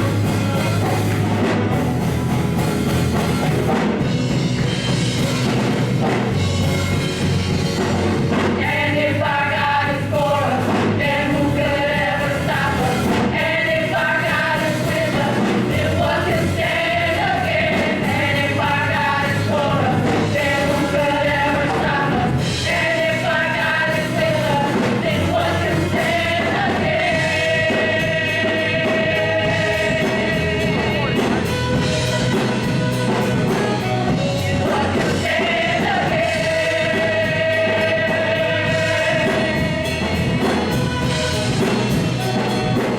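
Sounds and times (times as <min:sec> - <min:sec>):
band with bass and drums: 0:00.0 - 0:42.9
choir and congregation singing: 0:04.8 - 0:42.9.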